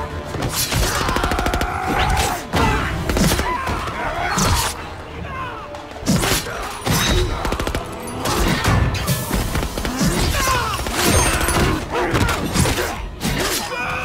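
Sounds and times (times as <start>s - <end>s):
film score: 0.0s - 14.0s.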